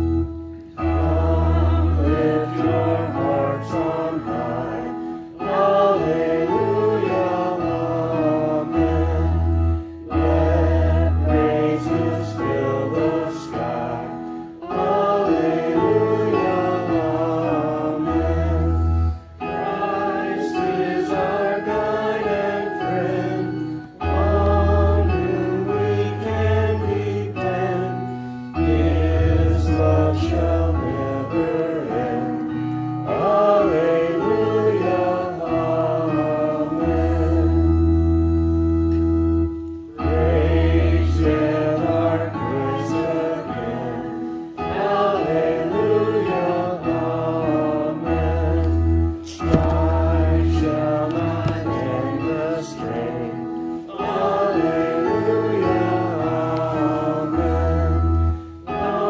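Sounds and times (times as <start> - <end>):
congregation singing a hymn: 0.0 - 59.0
instrumental accompaniment: 0.0 - 59.0.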